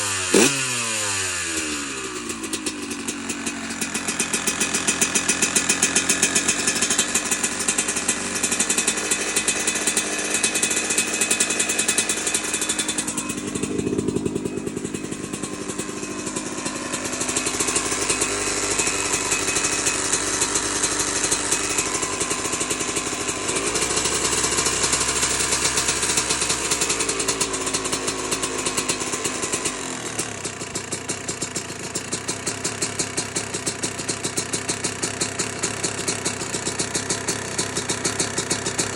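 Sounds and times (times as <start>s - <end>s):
two-stroke dirt bike engine: 0.0s - 38.9s.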